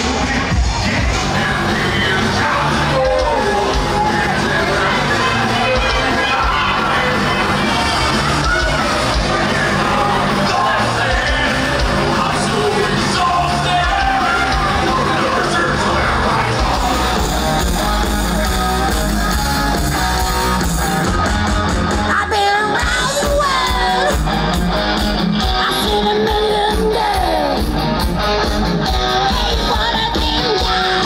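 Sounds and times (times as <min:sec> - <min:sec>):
rock music: 0:00.0 - 0:31.0.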